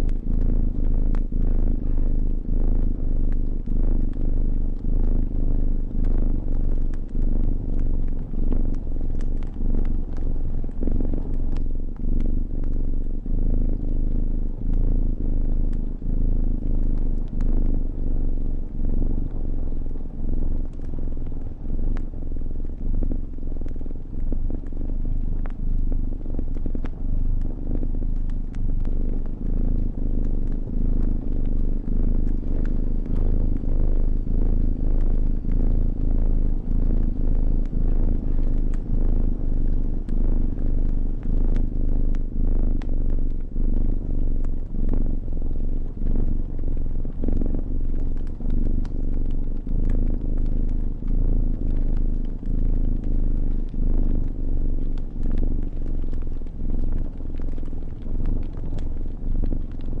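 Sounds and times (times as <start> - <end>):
cat purring: 0.0 - 60.0
fire crackling and popping: 0.0 - 60.0.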